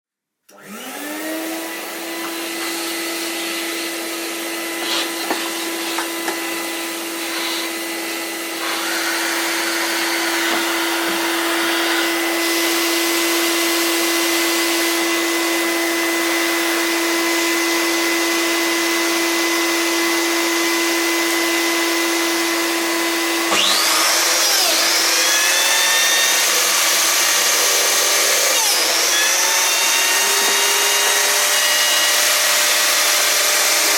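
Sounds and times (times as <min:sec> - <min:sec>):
power tool motor whining: 0:00.5 - 0:33.9.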